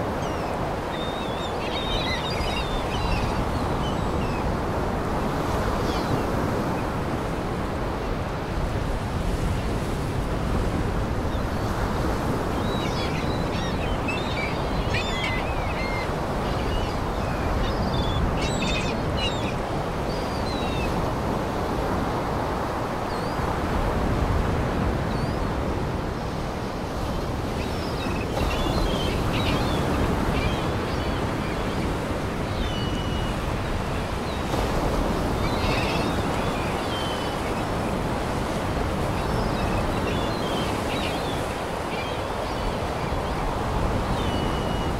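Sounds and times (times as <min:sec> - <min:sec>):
wind: 0:00.0 - 0:44.9.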